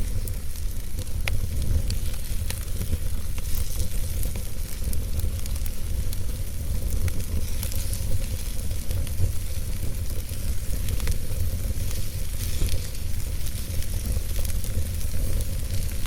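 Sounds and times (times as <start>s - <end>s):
log fire crackling and hissing: 0.0s - 16.0s.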